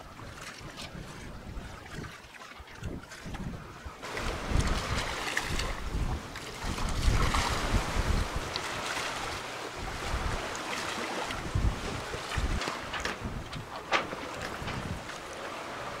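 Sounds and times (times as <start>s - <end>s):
sea water rushing along hulls: 0.0s - 16.0s
wind buffeting microphone: 0.0s - 16.0s.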